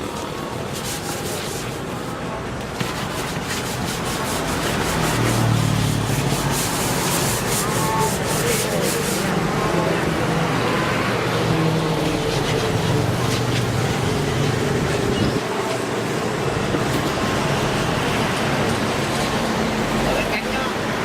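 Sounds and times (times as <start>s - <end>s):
brush scrubbing a refrigerator: 0.0s - 9.4s, 11.2s - 20.4s.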